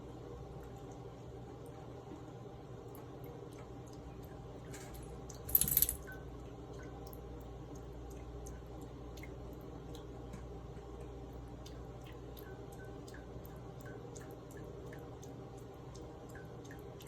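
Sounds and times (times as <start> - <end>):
small drips: 0.4 - 17.0.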